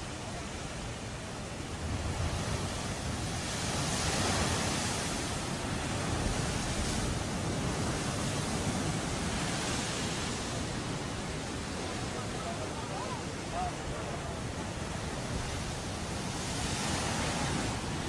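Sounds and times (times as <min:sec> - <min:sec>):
surf breaking over rocks: 0:00.2 - 0:18.0.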